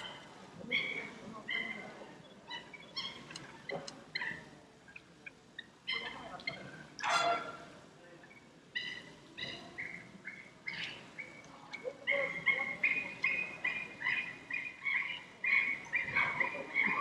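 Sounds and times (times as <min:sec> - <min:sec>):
bird chirping: 0:00.0 - 0:06.8, 0:08.2 - 0:17.0.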